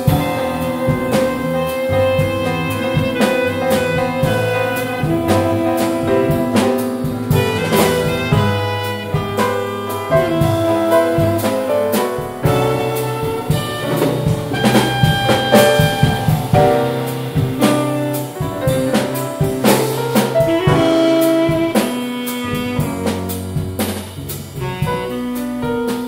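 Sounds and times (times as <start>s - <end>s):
drum kit: 0.0s - 26.0s
piano: 0.0s - 26.0s
saxophone: 0.0s - 26.0s
walking double bass line: 0.0s - 26.0s.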